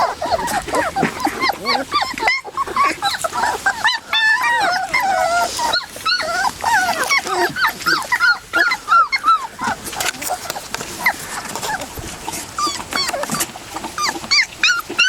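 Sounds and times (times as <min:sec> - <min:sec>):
puppies whimpering and crying: 0:00.0 - 0:15.0.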